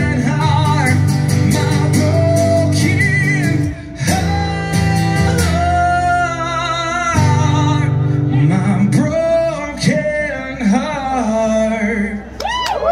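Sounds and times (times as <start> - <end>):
strummed acoustic guitar: 0.0 - 12.2
man singing long notes: 0.0 - 12.4.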